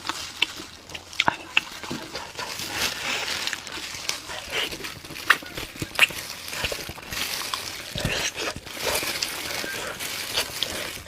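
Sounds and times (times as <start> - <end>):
wet chewing and lip smacks: 0.0 - 11.0.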